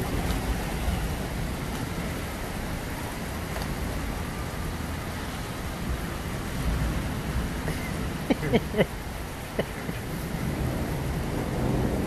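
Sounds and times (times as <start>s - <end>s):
rain falling on wet street: 0.0s - 12.0s.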